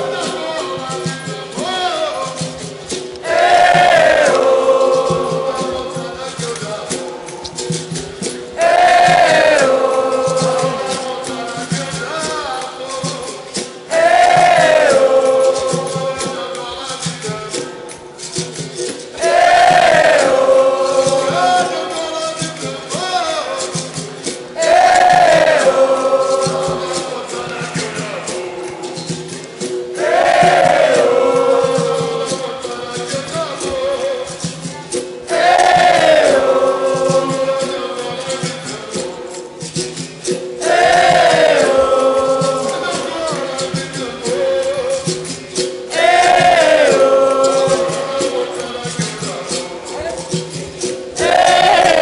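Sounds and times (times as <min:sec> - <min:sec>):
berimbau: 0:00.0 - 0:52.0
group singing call and response: 0:00.0 - 0:52.0
shaker rattle: 0:00.0 - 0:52.0.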